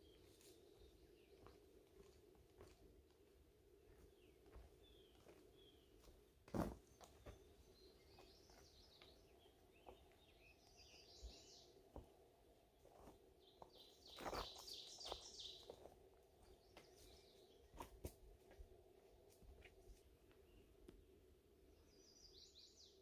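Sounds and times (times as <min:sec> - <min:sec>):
songbird singing: 0:00.0 - 0:02.3, 0:03.2 - 0:23.0.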